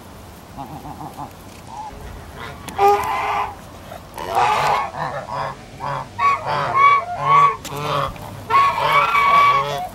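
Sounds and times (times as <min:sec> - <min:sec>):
geese honking: 0:00.6 - 0:09.9.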